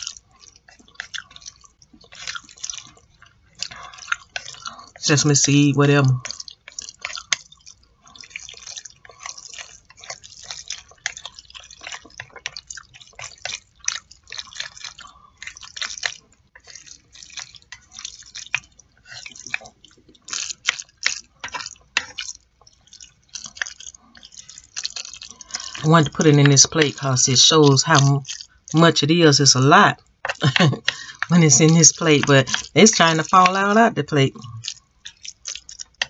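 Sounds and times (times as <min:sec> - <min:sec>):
wet chewing and mouth smacking: 0:00.0 - 0:36.0.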